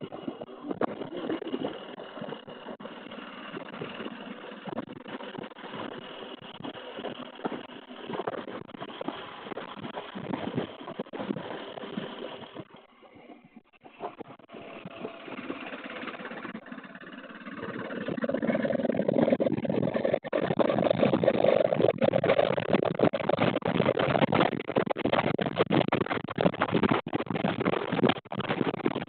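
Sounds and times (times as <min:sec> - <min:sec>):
motorcycle engine running: 0:00.0 - 0:28.7
wind rushing over microphone: 0:00.0 - 0:29.0.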